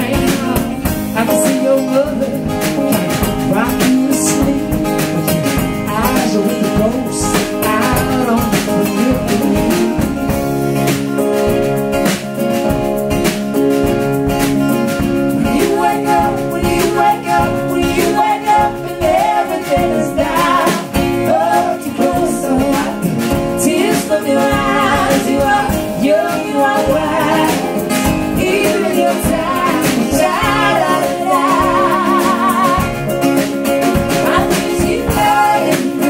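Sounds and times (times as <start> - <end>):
person singing: 0.0 - 10.4, 15.4 - 33.1, 34.1 - 36.0
acoustic guitar: 0.0 - 36.0.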